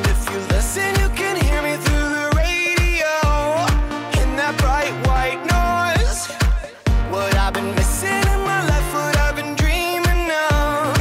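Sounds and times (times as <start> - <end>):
kick-drum beat: 0.0 - 11.0.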